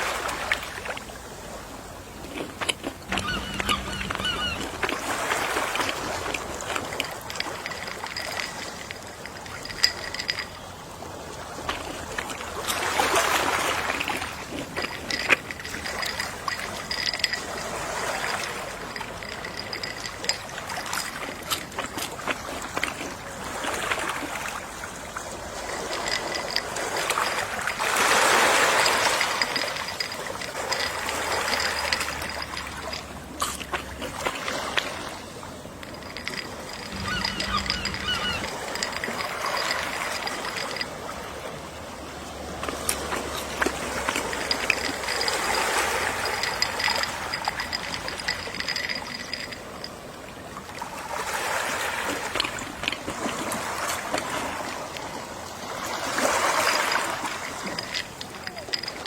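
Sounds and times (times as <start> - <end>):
sea waves washing onto shore: 3.0 - 48.8, 49.6 - 59.0.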